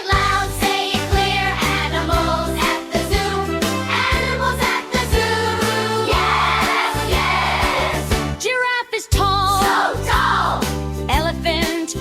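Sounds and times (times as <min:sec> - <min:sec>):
upbeat children's song: 0:00.0 - 0:12.0.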